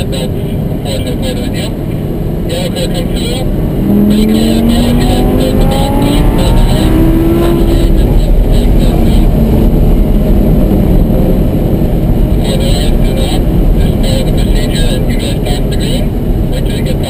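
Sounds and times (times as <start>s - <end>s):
sports car engine accelerating: 0.4s - 17.0s.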